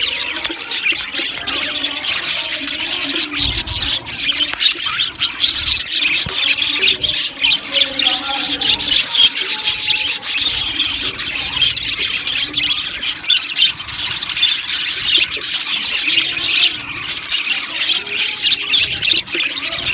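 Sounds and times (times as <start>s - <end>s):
budgerigars chattering and chirping: 0.0s - 19.9s.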